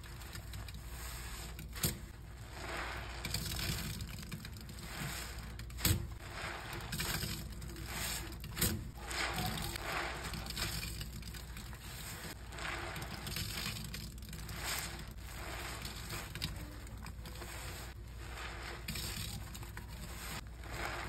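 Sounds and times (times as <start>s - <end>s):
soapy sponge squelching: 0.0s - 21.0s.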